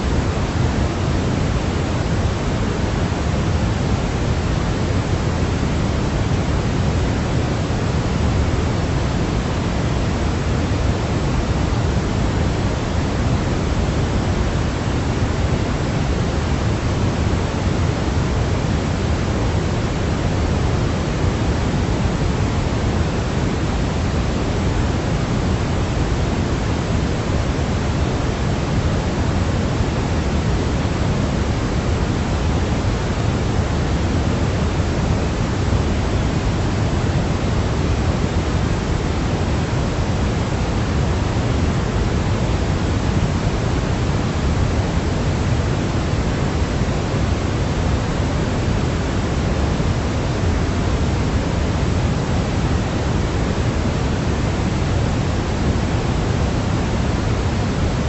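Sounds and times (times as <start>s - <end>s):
pink noise: 0.0s - 58.0s.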